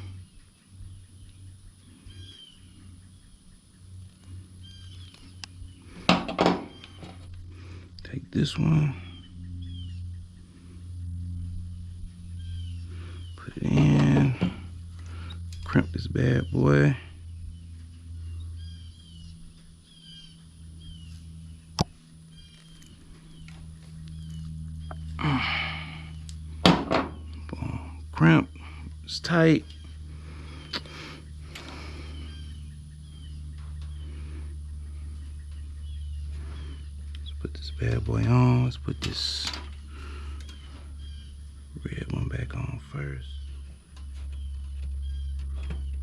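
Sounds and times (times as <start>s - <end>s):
faint bird chirps: 0.0s - 7.3s, 8.0s - 26.4s, 27.1s - 46.0s
low steady hum: 0.0s - 46.0s.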